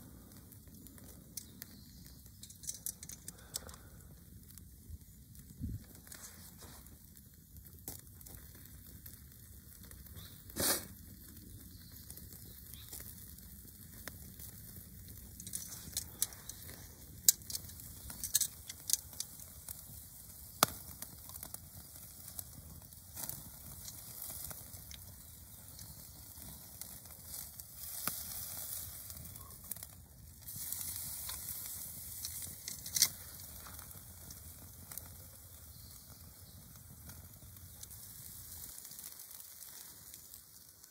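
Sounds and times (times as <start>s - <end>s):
campfire crackling and popping: 0.0s - 40.9s
steak sizzling on grill: 0.4s - 40.9s.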